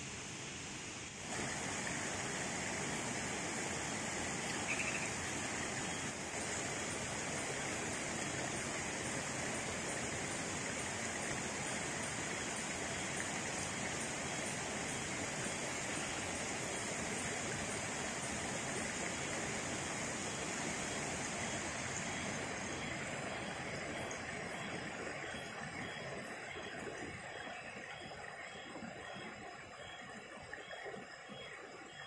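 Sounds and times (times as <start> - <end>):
constant high hiss: 0.0 - 32.0
stream running over rocks: 0.0 - 32.0.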